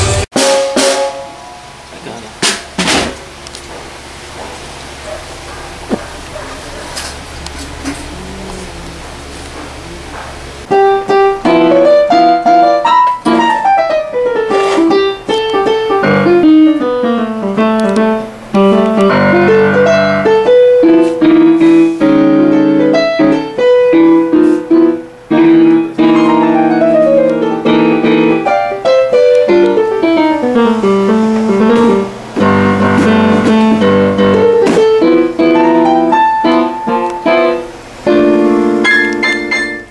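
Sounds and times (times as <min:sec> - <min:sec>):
piano playing runs and chords: 0:00.0 - 0:39.9.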